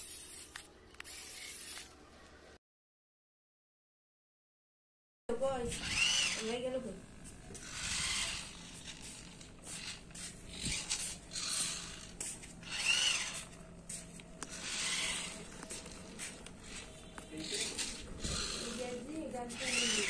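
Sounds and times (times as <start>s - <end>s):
robot arm motors whirring: 0.0s - 2.0s, 5.6s - 20.0s.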